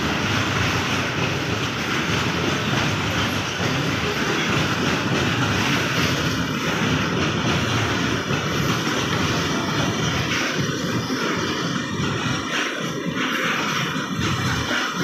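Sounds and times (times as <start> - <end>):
train passing close by: 0.0 - 15.0.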